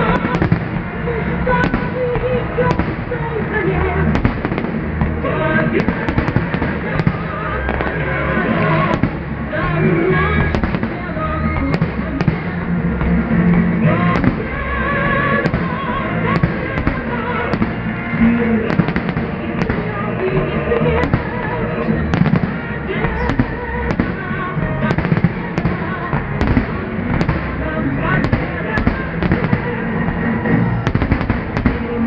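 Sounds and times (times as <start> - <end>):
fireworks bangs: 0.0 - 32.0
music playing: 0.0 - 32.0.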